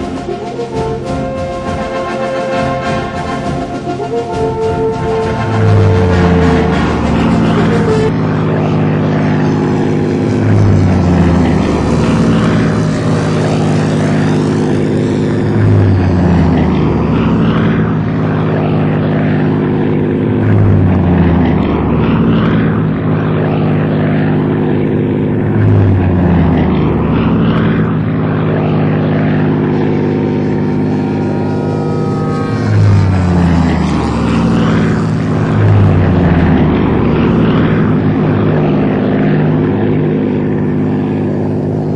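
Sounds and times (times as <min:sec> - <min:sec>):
model airplane engine and propeller: 0:00.0 - 0:41.9.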